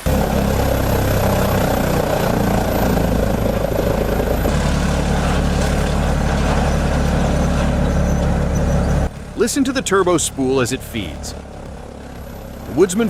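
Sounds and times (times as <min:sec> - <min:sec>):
tree chipper engine droning: 0:00.0 - 0:13.0.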